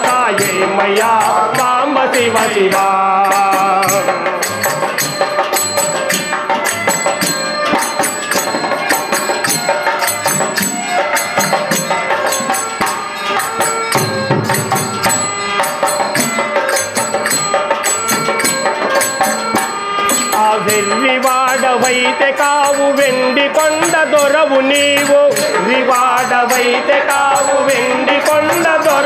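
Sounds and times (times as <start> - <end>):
hand drum rhythm: 0.0 - 29.0
small hand cymbals clashing: 0.0 - 29.0.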